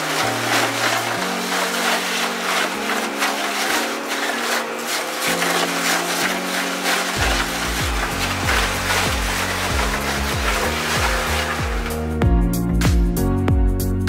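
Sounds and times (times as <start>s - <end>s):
tyre shredder grinding and tearing: 0.0s - 12.3s.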